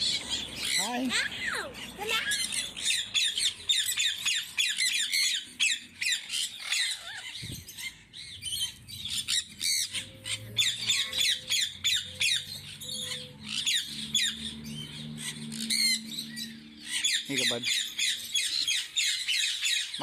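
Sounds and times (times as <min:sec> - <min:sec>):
parrots squawking: 0:00.0 - 0:20.0.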